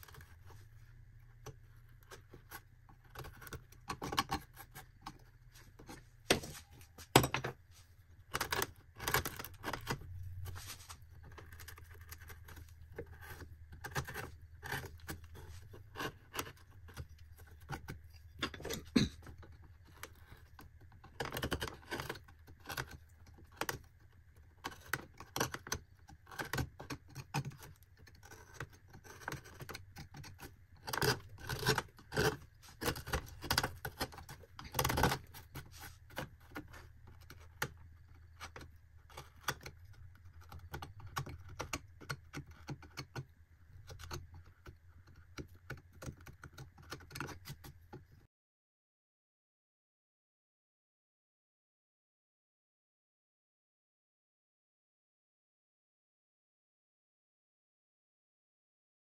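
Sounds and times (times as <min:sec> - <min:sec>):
knife carving and scraping bark: 0:00.0 - 0:48.1.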